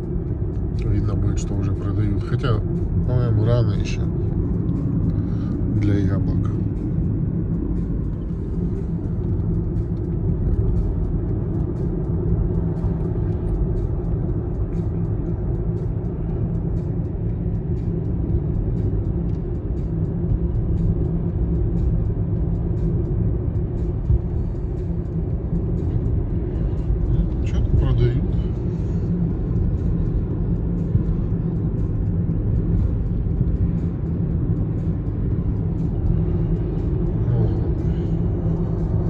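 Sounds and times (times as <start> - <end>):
road and tyre noise in car cabin: 0.0 - 39.0.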